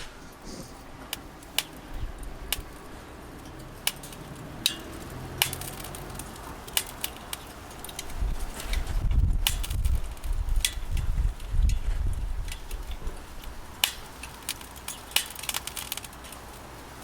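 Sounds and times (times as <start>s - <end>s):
firewood crackling in stove: 0.0s - 17.0s.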